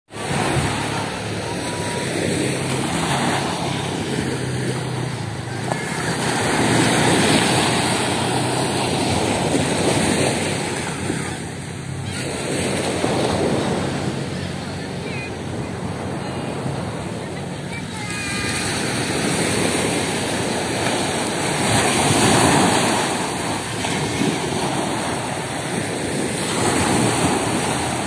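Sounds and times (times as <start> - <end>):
surf washing onto beach: 0.1 - 28.0.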